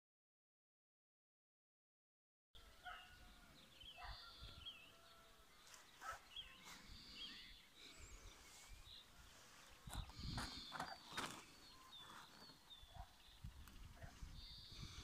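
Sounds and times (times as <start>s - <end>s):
small birds chirping: 2.6s - 15.0s.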